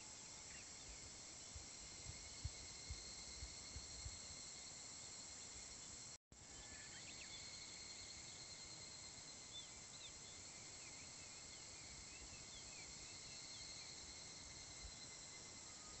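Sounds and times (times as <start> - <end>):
insects buzzing: 0.0 - 16.0
steady high insect tones: 0.0 - 16.0.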